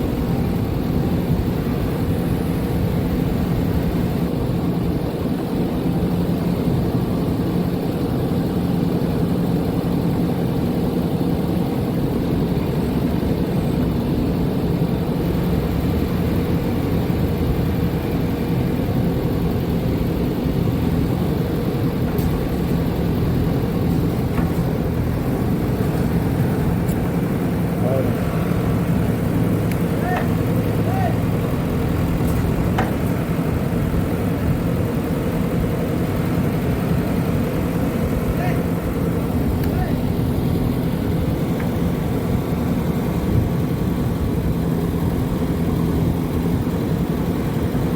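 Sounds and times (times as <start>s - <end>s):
diesel engine running steadily: 0.0s - 47.9s.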